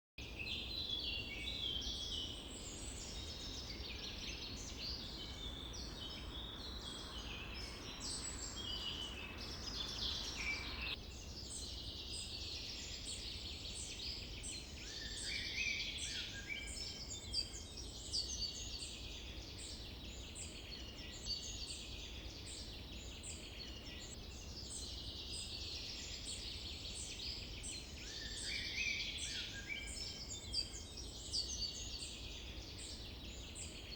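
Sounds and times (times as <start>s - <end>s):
birds singing and chirping: 0.4s - 33.9s.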